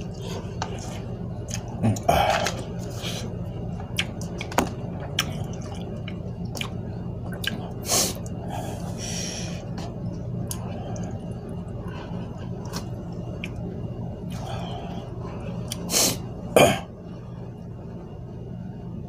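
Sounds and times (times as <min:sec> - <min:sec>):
person chewing noodles: 0:00.0 - 0:16.3
low hum: 0:00.0 - 0:19.0.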